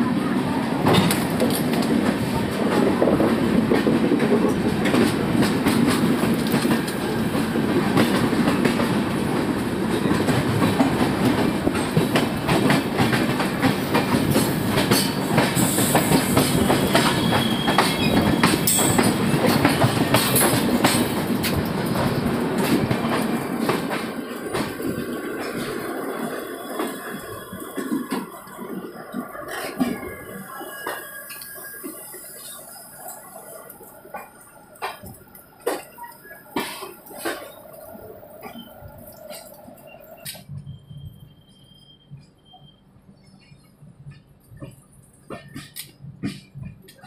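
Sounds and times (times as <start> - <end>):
train coaches rumbling past: 0.0 - 47.0.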